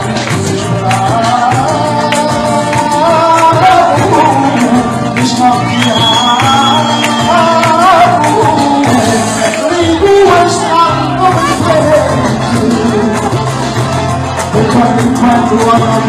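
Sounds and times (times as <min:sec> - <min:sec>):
loud music with singing: 0:00.0 - 0:16.0.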